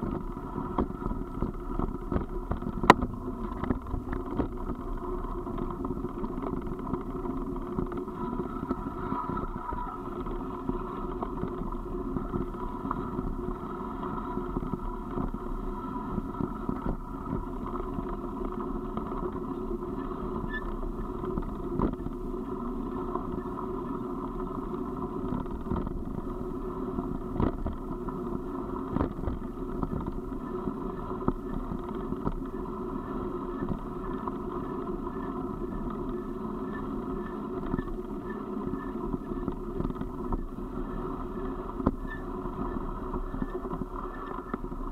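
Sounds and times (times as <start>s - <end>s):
vehicle rolling on gravel: 0.0s - 44.9s.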